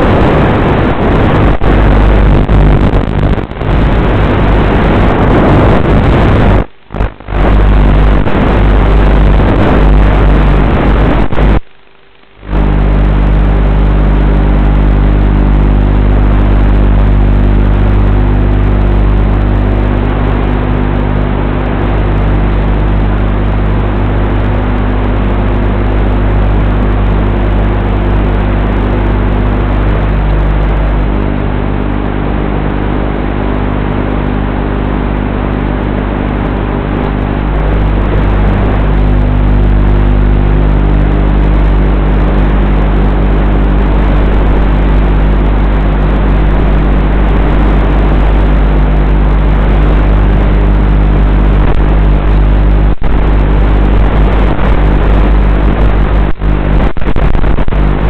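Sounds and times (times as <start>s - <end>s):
loud low hum: 0.0s - 58.0s.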